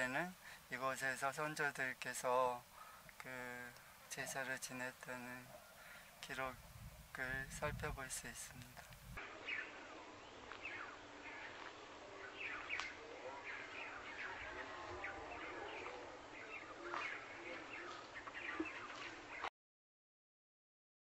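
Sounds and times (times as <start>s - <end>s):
small birds chirping: 0.0s - 19.5s.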